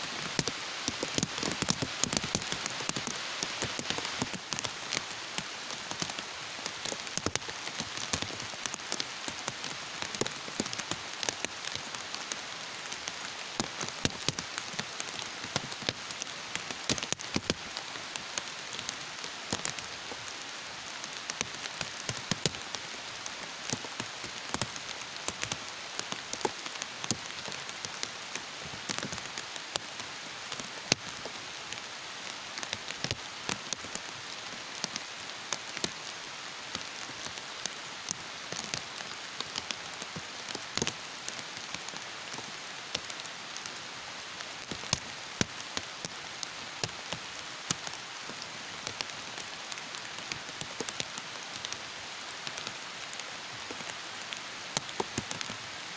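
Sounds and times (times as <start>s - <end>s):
drops and drips ticking: 0.0s - 43.8s, 44.6s - 55.6s
heavy rain hiss: 0.0s - 55.9s.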